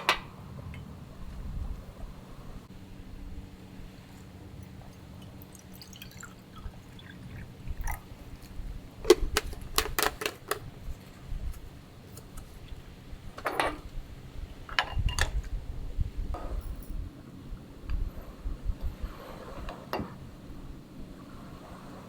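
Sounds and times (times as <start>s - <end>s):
low steady background rumble: 0.0s - 22.0s.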